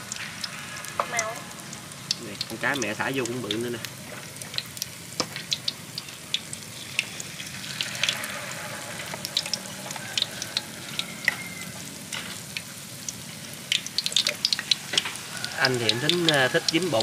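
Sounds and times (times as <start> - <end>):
fish frying in oil: 0.0 - 17.0.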